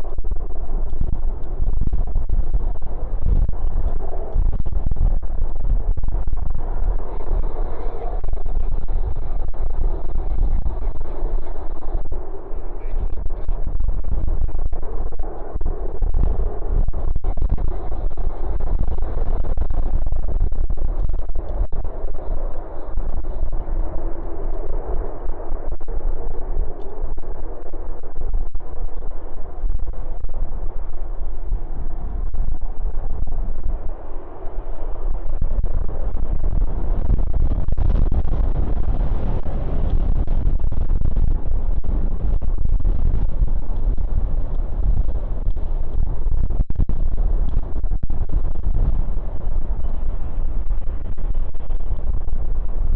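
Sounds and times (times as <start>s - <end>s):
jet aircraft engines rumbling: 0.0s - 52.9s
wind buffeting microphone: 0.0s - 52.9s.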